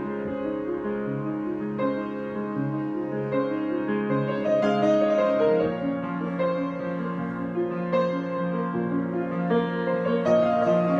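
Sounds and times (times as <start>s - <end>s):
soft piano chords: 0.0s - 10.9s.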